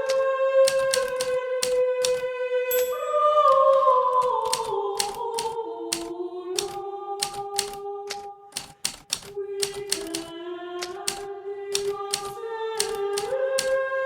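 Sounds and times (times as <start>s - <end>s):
typewriter keys clicking: 0.0s - 2.3s, 4.2s - 13.8s.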